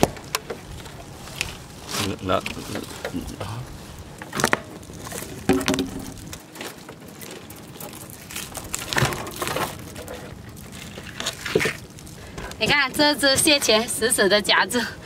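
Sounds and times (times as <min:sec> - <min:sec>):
scraping rustles: 0:00.0 - 0:13.9.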